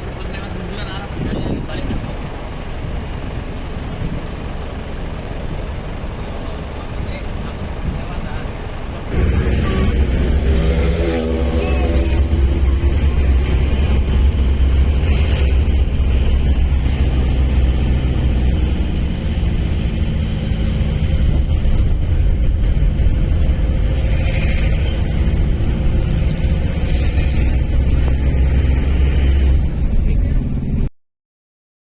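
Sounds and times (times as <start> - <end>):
vehicle engine and road noise: 0.0 - 30.9.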